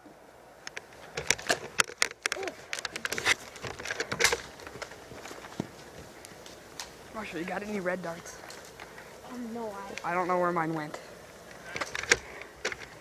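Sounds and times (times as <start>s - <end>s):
handling clicks and rustles: 0.6s - 13.0s.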